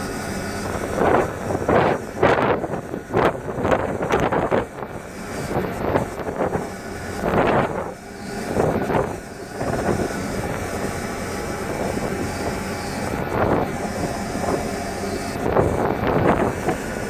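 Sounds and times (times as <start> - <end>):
ship engines droning: 0.0 - 17.0
wind buffeting microphone: 0.0 - 17.0.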